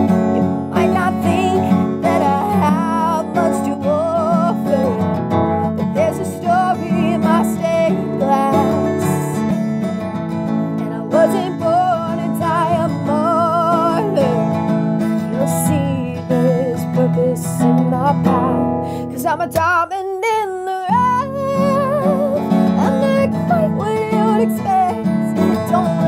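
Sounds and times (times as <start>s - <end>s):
woman singing with vibrato: 0.0s - 9.6s, 10.8s - 26.0s
strummed acoustic guitar: 0.0s - 26.0s.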